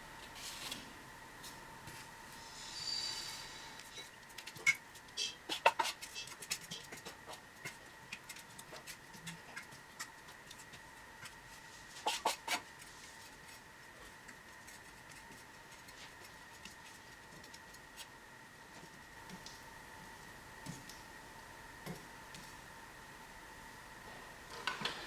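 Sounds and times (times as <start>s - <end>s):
faint high hum: 0.0s - 25.0s.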